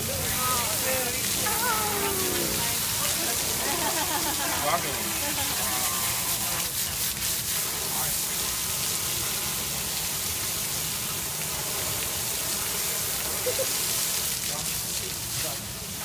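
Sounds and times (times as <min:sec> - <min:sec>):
hose water spraying and splashing: 0:00.0 - 0:16.0.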